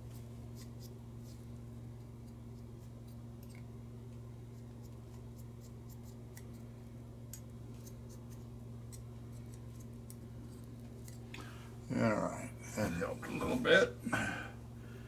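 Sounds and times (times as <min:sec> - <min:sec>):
steady low hum: 0:01.1 - 0:15.0.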